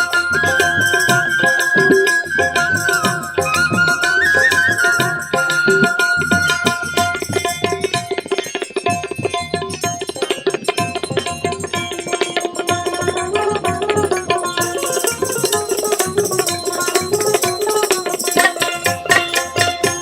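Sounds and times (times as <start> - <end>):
hand drums playing: 0.0 - 20.0
high bright percussion: 0.0 - 20.0.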